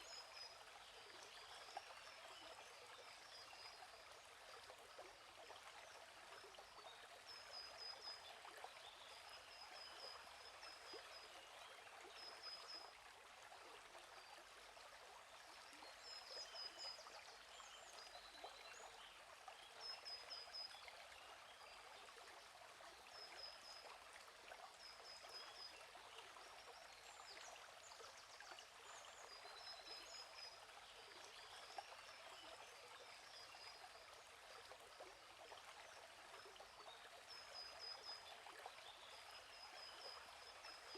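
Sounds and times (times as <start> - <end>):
stream burbling: 0.0 - 40.9.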